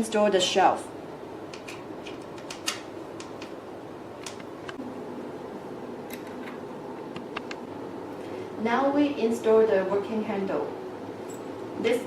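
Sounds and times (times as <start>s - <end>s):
fan-like hum: 0.0s - 12.0s.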